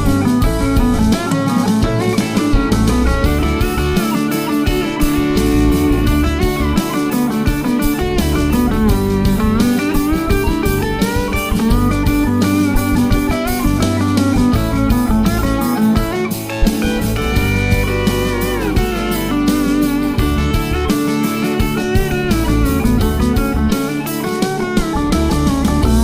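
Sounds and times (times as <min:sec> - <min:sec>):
blues guitar music: 0:00.0 - 0:26.0
drums keeping a beat: 0:00.0 - 0:26.0.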